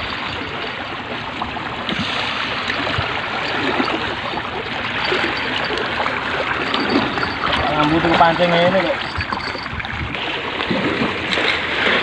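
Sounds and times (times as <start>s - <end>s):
sea water washing against rocks: 0.0s - 12.0s.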